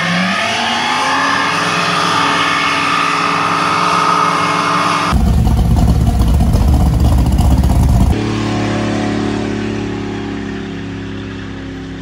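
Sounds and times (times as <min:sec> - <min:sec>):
truck engines revving hard: 0:00.0 - 0:12.0.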